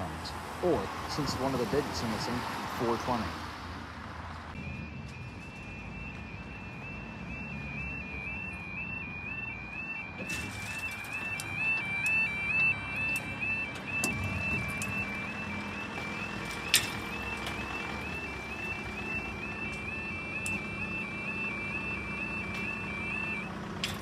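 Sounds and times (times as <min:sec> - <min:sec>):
level crossing alarm warbling: 0:04.5 - 0:24.0.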